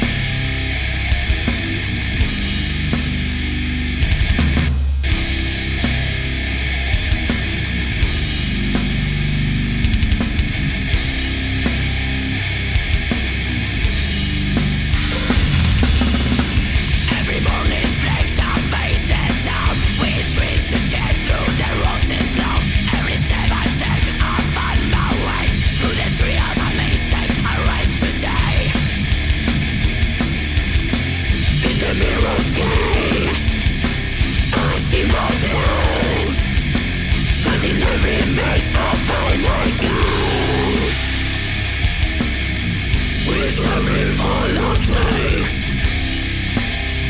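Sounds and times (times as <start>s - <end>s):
heavy metal music: 0.0s - 47.0s
steady drum beat: 0.0s - 47.0s.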